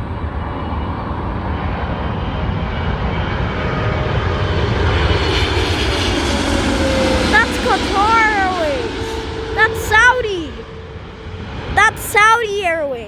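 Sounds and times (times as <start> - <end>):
jet airliner engine noise: 0.0 - 13.0.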